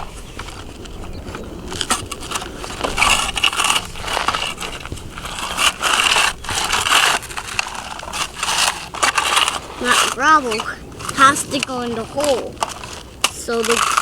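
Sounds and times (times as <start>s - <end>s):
toy digger scooping gravel: 1.6s - 14.0s.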